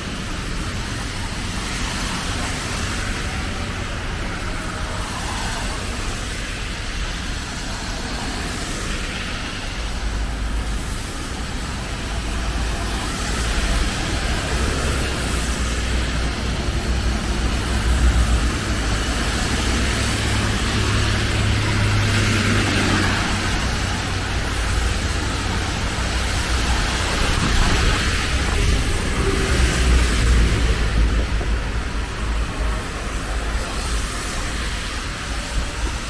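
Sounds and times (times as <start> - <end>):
cars passing: 0.0 - 36.0
deep traffic rumble: 0.0 - 36.0.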